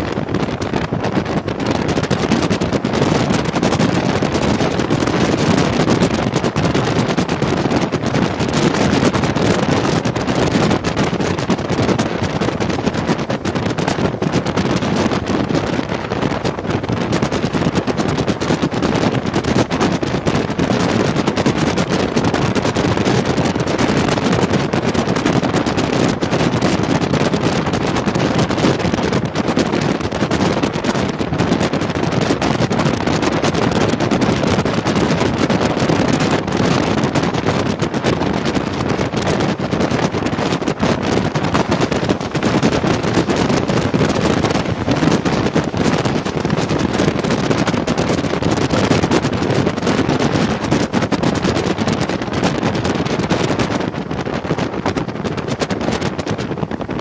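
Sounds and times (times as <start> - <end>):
train running at speed: 0.0 - 54.9
wind buffeting microphone: 0.0 - 57.0.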